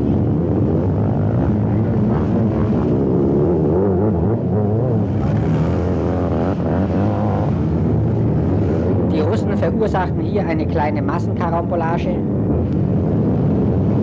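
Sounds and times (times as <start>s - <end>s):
motocross engines revving: 0.0s - 14.0s.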